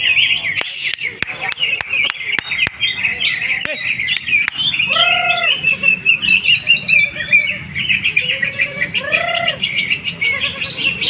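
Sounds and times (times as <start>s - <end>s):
birds chirping and trilling: 0.0s - 11.0s
low arching bird call: 0.0s - 11.0s.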